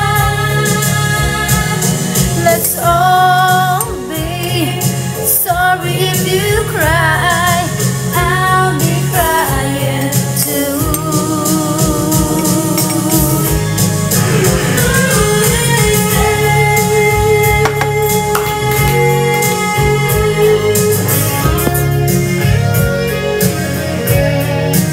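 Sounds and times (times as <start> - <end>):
woman singing with vibrato: 0.0 - 13.7, 14.6 - 21.9
backing music: 0.0 - 24.9.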